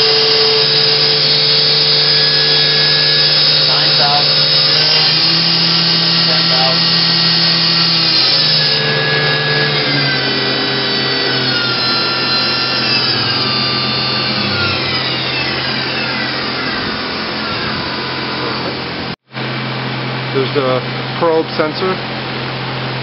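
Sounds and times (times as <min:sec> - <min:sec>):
servo whine: 0:00.0 - 0:23.0.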